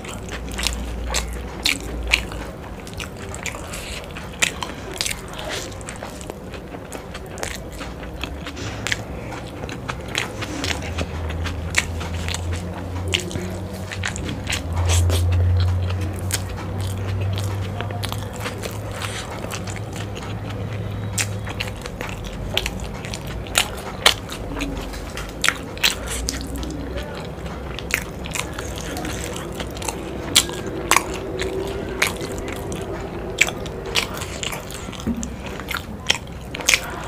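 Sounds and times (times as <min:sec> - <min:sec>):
mouth smacks and clicks: 0:00.0 - 0:37.0
wet squishy chewing: 0:00.0 - 0:37.0.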